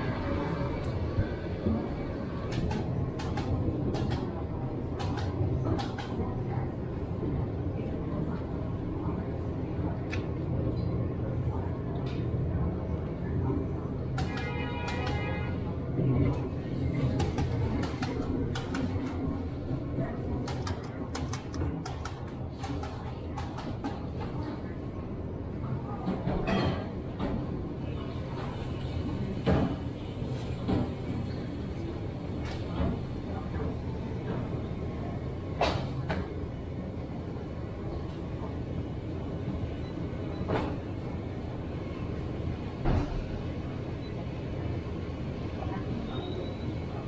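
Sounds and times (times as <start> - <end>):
shop background rumble: 0.0 - 47.0.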